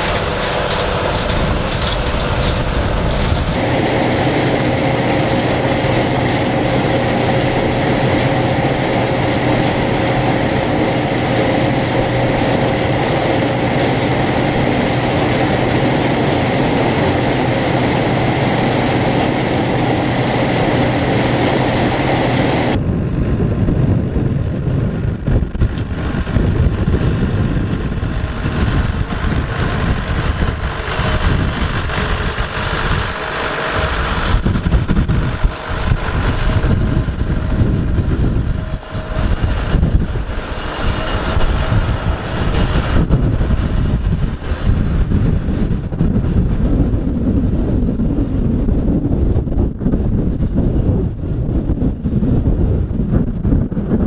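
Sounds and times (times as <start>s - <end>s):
engine idling: 0.0s - 22.8s, 24.7s - 46.0s
combine harvester running: 0.0s - 54.0s
wind buffeting microphone: 0.0s - 54.0s.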